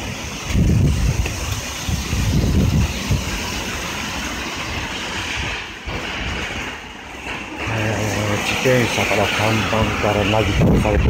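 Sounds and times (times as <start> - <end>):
steady hiss: 0.0 - 11.0
wind buffeting microphone: 0.0 - 11.0.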